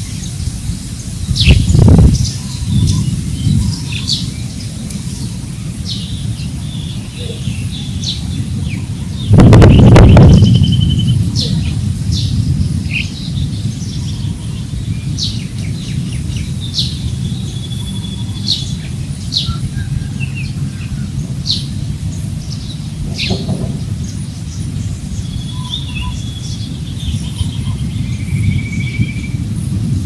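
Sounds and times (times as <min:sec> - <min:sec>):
high bird trill: 0:00.0 - 0:29.5
birds chirping: 0:00.0 - 0:30.0
low wind noise: 0:00.0 - 0:30.0.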